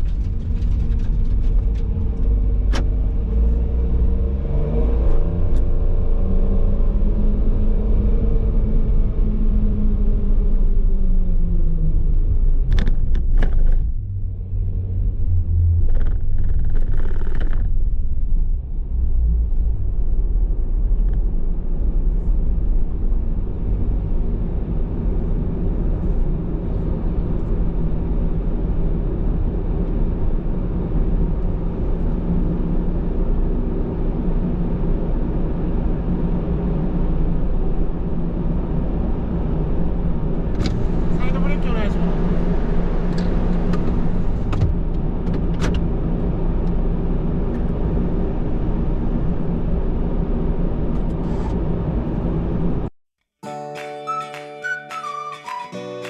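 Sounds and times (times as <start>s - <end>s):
car engine and road noise: 0.0s - 53.6s.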